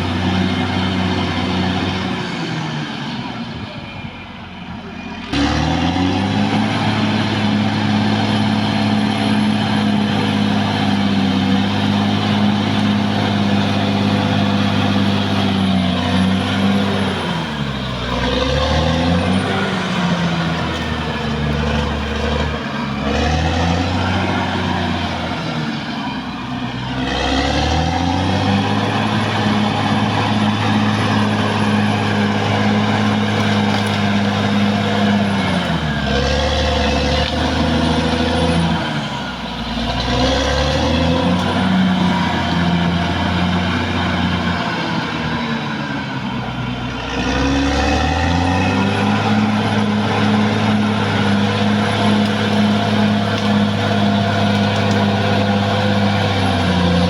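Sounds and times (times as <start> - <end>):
bulldozer diesel engine revving: 0.0 - 57.0.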